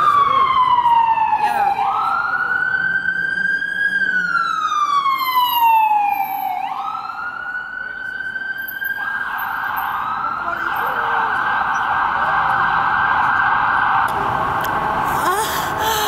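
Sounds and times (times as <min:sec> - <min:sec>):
ambulance siren wailing: 0:00.0 - 0:16.0
city traffic noise: 0:00.0 - 0:16.0.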